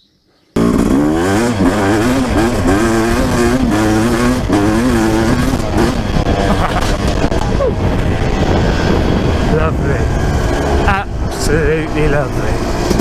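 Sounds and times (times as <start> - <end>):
dirt bike engine revving hard: 0.6 - 13.0.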